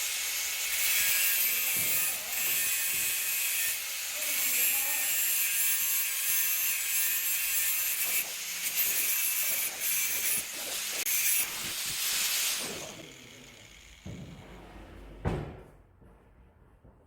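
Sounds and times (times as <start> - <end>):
power grinder grinding steel: 0.0 - 14.2.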